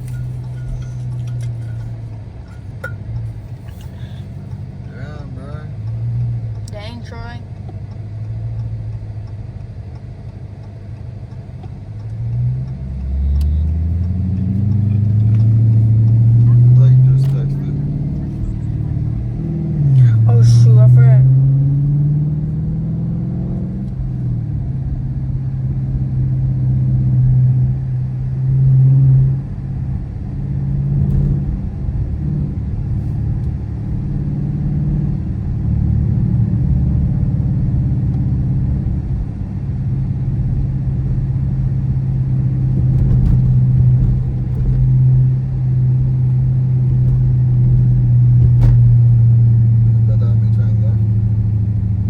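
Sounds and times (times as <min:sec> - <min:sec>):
car engine and exhaust droning: 0:00.0 - 0:52.0.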